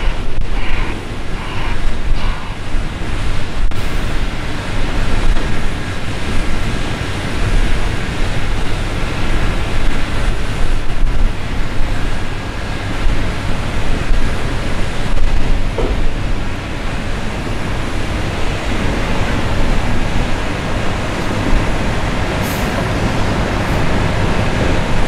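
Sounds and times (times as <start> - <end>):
wheel loader diesel engine rumbling: 0.0 - 25.0.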